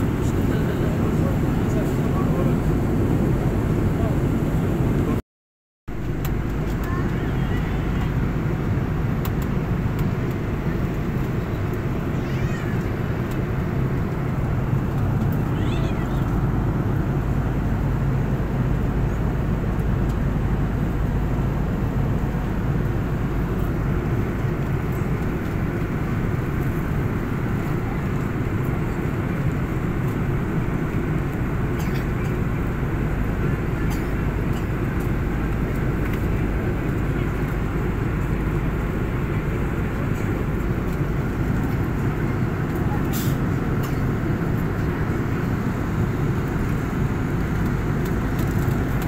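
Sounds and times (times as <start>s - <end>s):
airliner cabin hum: 0.0s - 5.2s, 6.0s - 49.0s.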